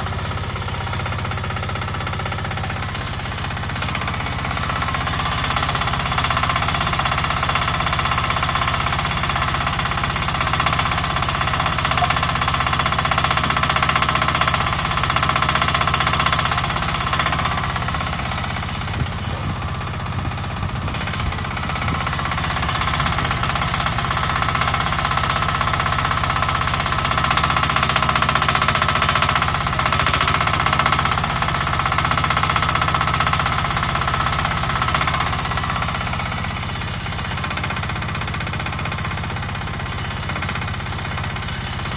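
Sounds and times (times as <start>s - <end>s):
diesel engine chattering: 0.0s - 41.9s
hydraulic whine: 0.0s - 41.9s.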